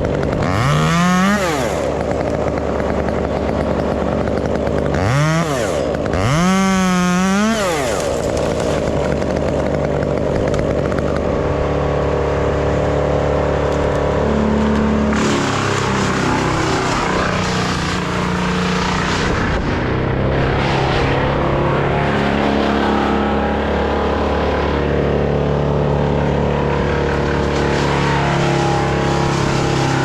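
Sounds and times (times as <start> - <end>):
chainsaw running at high speed: 0.0 - 20.5, 21.2 - 30.0.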